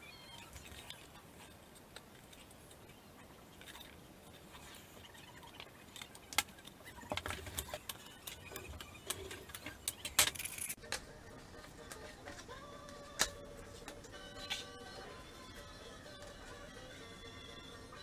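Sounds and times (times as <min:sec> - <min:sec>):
faint music: 0:00.0 - 0:18.0.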